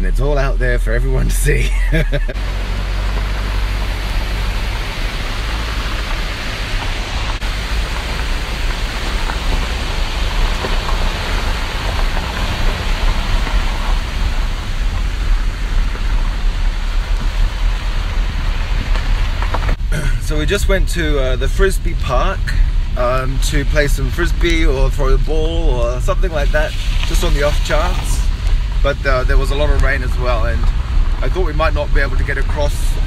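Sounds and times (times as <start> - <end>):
car road noise: 0.0 - 33.0.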